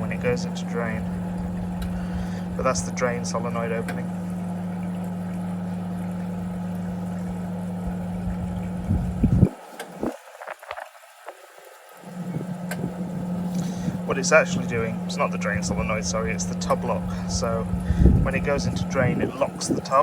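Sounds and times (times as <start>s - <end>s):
washing machine hum: 0.0s - 20.0s.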